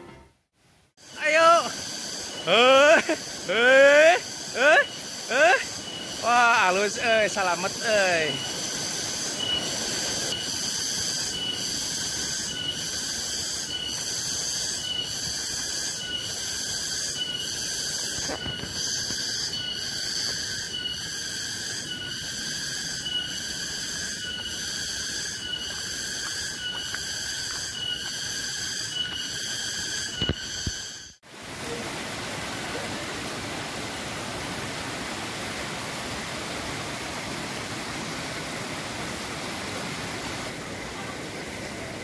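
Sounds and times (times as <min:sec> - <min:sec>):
cicadas droning: 0:00.6 - 0:42.0.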